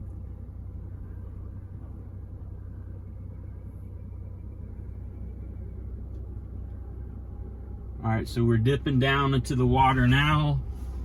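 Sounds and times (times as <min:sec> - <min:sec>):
truck engine running low: 0:00.0 - 0:11.0.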